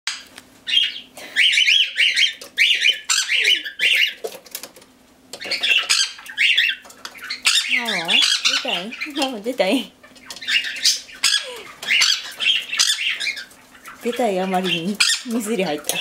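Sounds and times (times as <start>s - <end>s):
cockatiel squawking: 0.1s - 4.2s, 5.4s - 9.2s, 10.0s - 15.3s.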